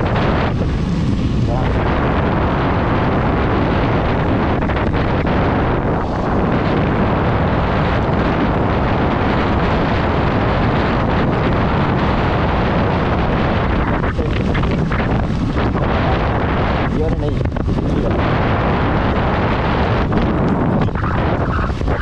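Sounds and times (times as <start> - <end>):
wind roar on microphone: 0.0 - 22.0.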